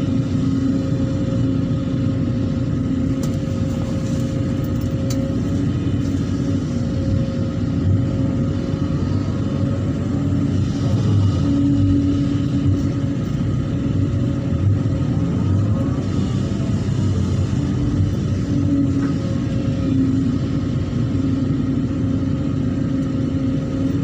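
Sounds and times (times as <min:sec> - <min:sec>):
excavator diesel engine running: 0:00.0 - 0:24.0
steady whine: 0:00.0 - 0:24.0.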